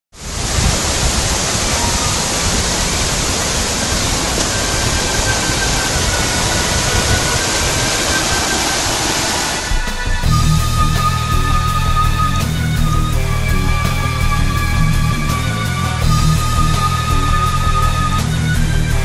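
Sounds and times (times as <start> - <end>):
waterfall pouring heavily: 0.1 - 19.0.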